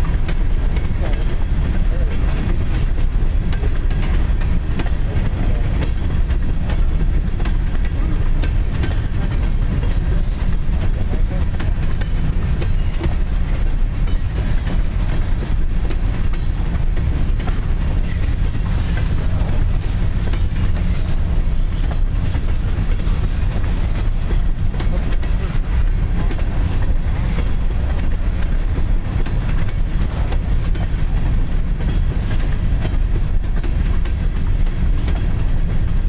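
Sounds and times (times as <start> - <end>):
freight train wheels rumbling: 0.0 - 36.0
wheels clicking and clacking: 0.0 - 36.0.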